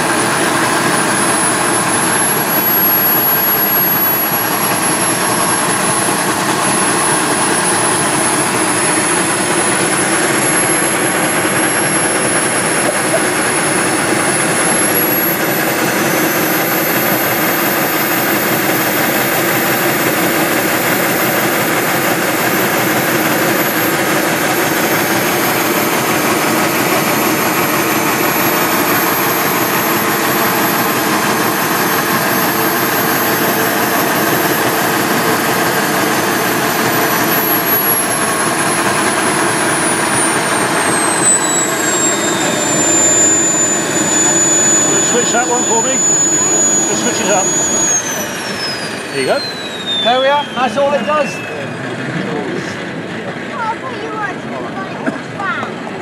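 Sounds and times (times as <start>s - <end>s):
gas turbine jet roar and whine: 0.0s - 56.0s.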